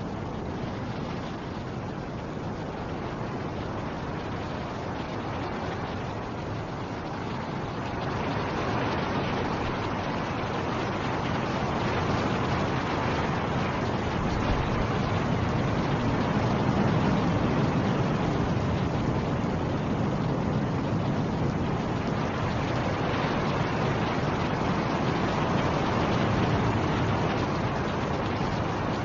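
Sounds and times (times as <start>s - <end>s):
storm wind rushing: 0.0s - 29.0s.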